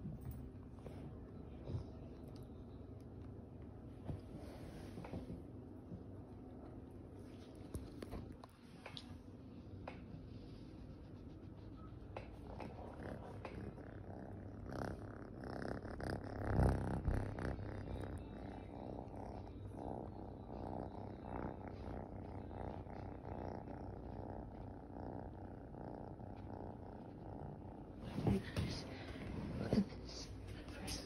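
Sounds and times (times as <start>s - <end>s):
kitten purring: 0.0s - 31.0s.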